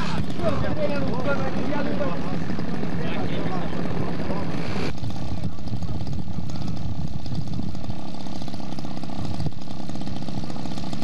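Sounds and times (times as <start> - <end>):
two-stroke engine idling: 0.0 - 11.0.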